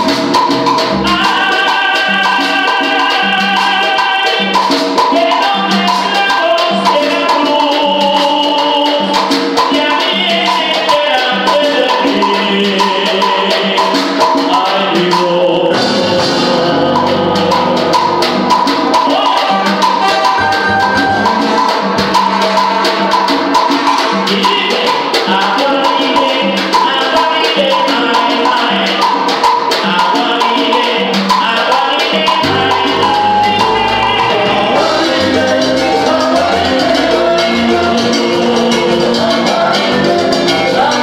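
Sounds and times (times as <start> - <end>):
busy percussion rhythm: 0.0 - 41.0
salsa band playing live: 0.0 - 41.0
voices singing: 1.0 - 23.5, 24.1 - 41.0.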